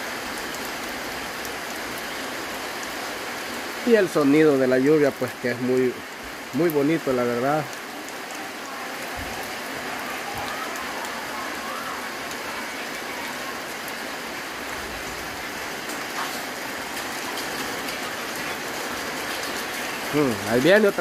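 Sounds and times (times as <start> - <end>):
light rain on pavement: 0.0 - 21.0.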